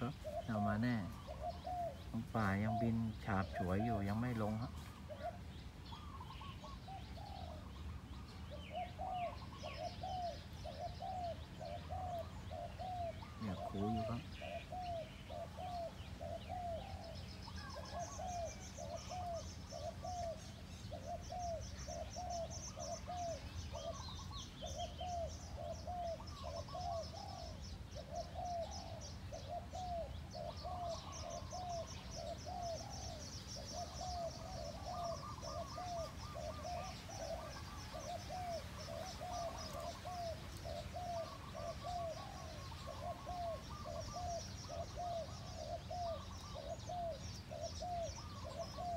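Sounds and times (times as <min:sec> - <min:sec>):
dove cooing: 0:00.0 - 0:48.9
small birds chirping: 0:00.0 - 0:48.9.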